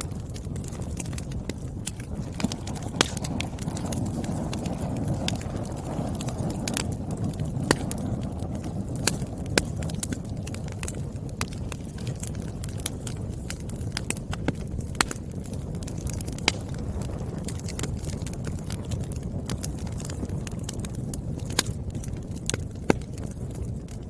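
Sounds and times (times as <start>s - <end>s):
fire flames rumbling: 0.0s - 24.0s
firewood crackling and popping: 0.0s - 24.0s.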